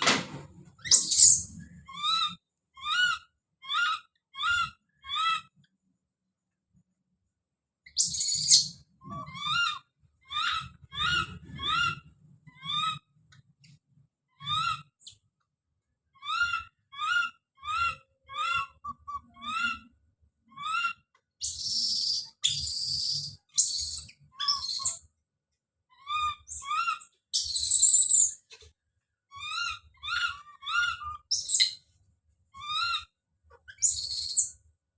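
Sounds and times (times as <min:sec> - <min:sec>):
baby monkey cries and screams: 0:00.6 - 0:05.7, 0:07.9 - 0:13.2, 0:14.3 - 0:15.3, 0:16.1 - 0:25.2, 0:25.9 - 0:34.6.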